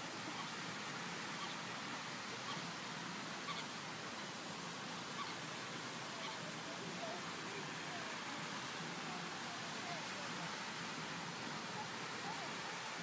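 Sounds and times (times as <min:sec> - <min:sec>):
fountain water jet rushing: 0:00.0 - 0:13.0.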